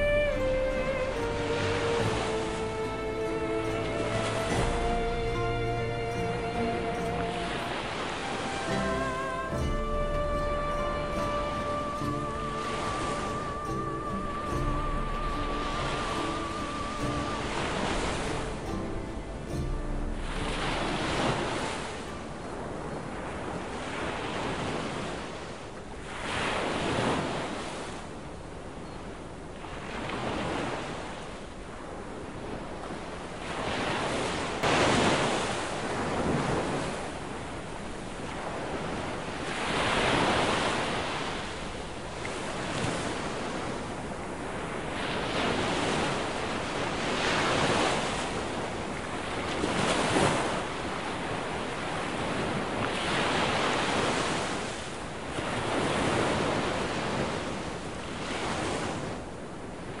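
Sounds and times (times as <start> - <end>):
waves breaking on sandy beach: 0.0 - 60.0
wind on microphone: 0.0 - 60.0.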